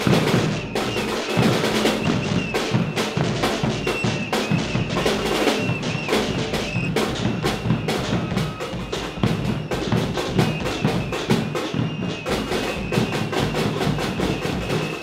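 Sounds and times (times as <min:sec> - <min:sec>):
drums beaten hard: 0:00.0 - 0:15.0.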